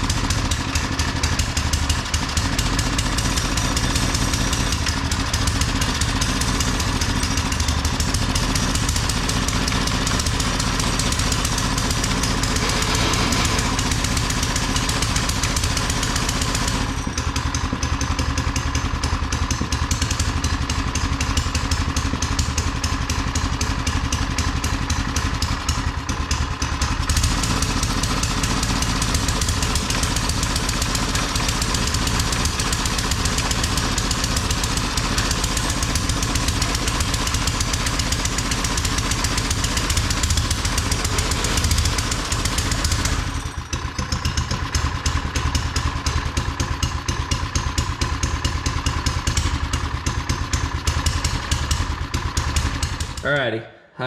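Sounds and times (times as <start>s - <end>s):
small engine running: 0.0s - 53.5s.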